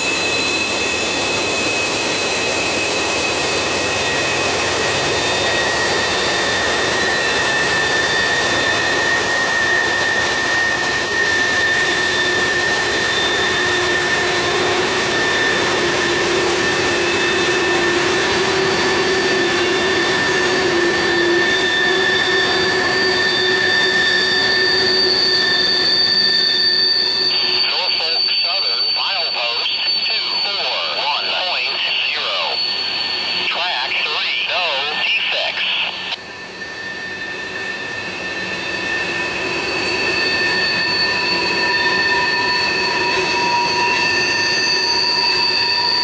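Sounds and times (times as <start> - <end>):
wheel flanges squealing on rail: 0.0 - 46.0.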